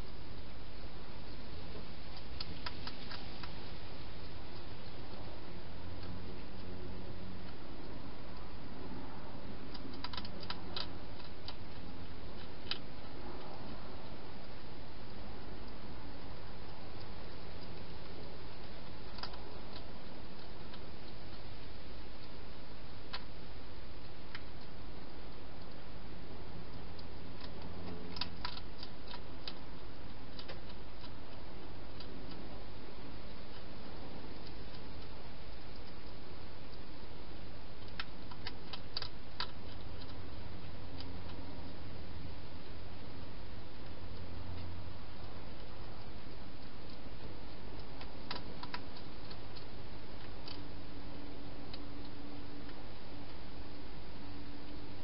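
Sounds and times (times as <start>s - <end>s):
steady hiss: 0.0s - 55.0s
steady low hum: 0.0s - 55.0s
hedgehog chewing clicks: 1.7s - 8.6s, 9.5s - 55.0s.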